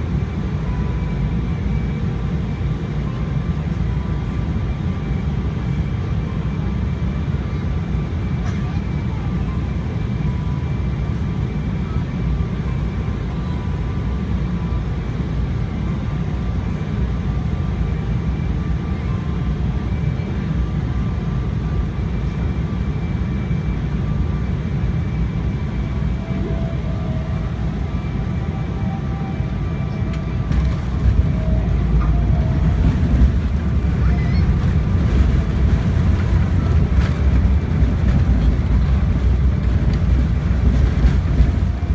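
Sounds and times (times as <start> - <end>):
airliner cabin engine rumble: 0.0 - 41.9
airliner touching down on runway: 0.0 - 41.9
faint high engine whine: 0.0 - 41.9.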